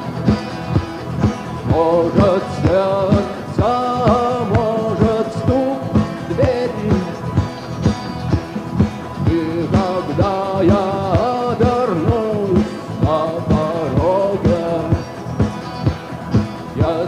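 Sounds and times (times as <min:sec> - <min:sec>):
drums keeping a steady beat: 0:00.0 - 0:17.0
rock band playing live: 0:00.0 - 0:17.0.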